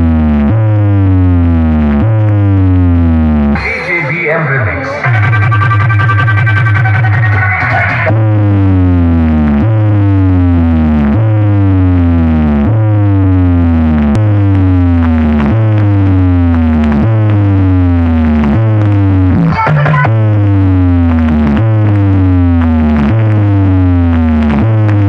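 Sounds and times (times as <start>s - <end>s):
heavy pulsing bass: 0.0s - 25.0s.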